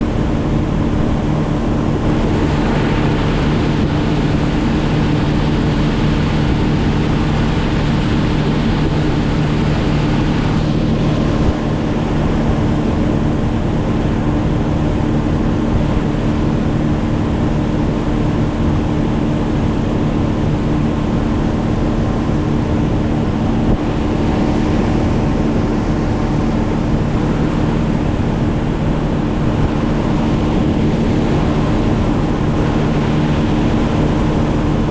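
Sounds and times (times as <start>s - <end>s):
motorboat engine running: 0.0s - 34.9s
water rushing past hull: 0.0s - 34.9s
wind on microphone: 0.0s - 34.9s.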